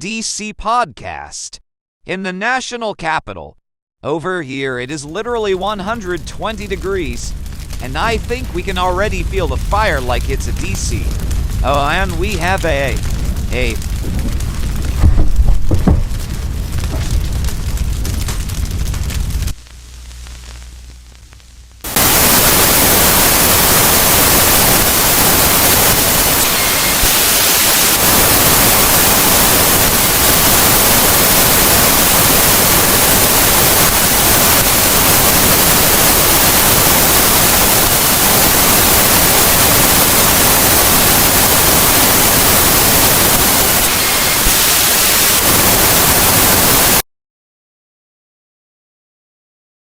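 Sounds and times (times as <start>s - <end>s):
loud static hiss: 5.1s - 47.0s.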